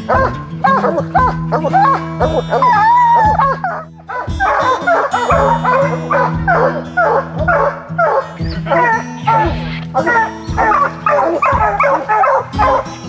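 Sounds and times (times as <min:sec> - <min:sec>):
background music with low drone: 0:00.0 - 0:13.0
hound bawling: 0:00.0 - 0:13.0
hounds chop barking: 0:00.0 - 0:13.0.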